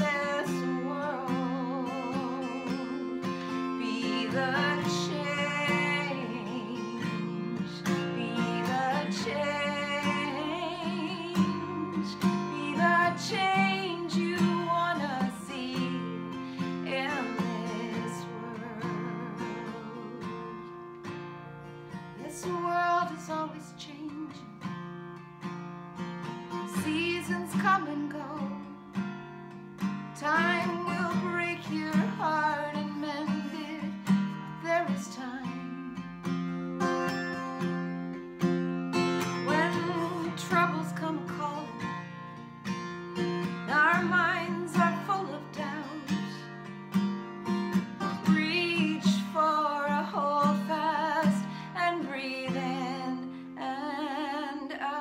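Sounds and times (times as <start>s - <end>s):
woman singing: 0.0s - 21.2s, 21.9s - 25.3s, 26.4s - 55.0s
acoustic guitar strumming: 0.0s - 55.0s.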